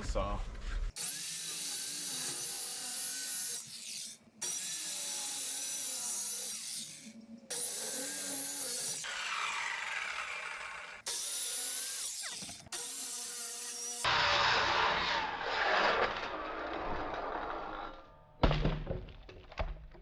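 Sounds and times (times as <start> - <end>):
circular saw cutting timber: 0.9 - 18.0.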